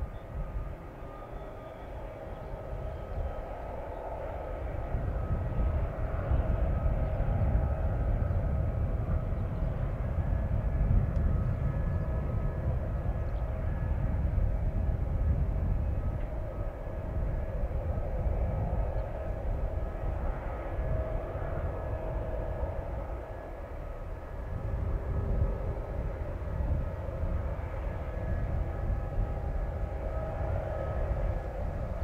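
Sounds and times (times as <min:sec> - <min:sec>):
aircraft whine: 0:00.0 - 0:32.0
low rumble: 0:00.0 - 0:32.0.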